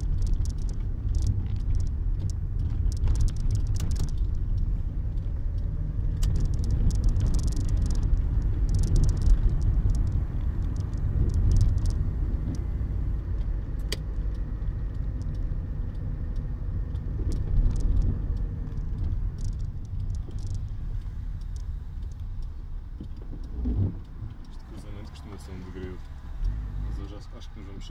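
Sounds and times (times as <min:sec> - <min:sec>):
car engine low rumble: 0:00.0 - 0:27.9
small clicks and rattles: 0:00.0 - 0:27.9
tyres on wet road: 0:00.0 - 0:27.9.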